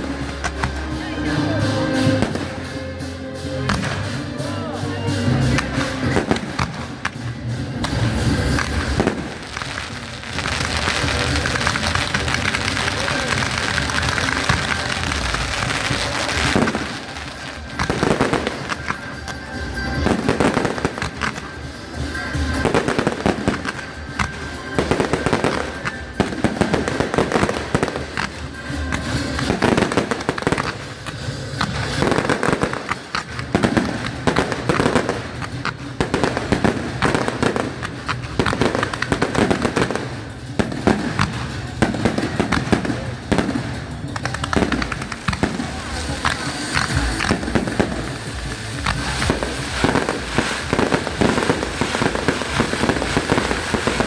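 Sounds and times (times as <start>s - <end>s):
fireworks bangs and crackles: 0.0s - 54.0s
music playing: 0.0s - 54.0s.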